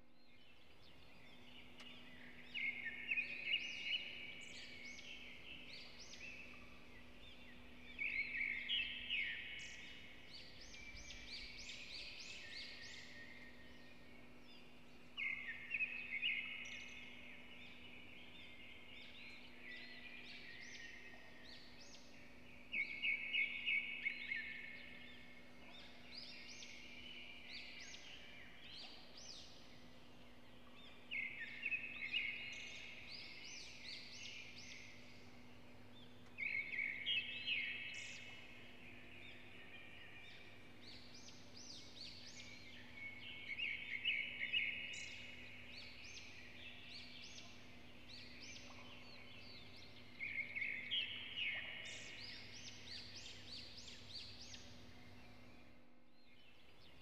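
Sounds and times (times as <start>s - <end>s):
faint low hum: 0.0s - 57.0s
songbird singing trill: 0.0s - 57.0s.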